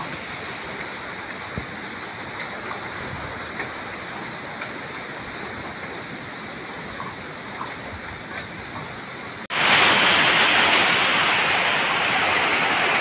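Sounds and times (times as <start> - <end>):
flowing floodwater: 0.0 - 13.0
heavy rain: 0.0 - 13.0.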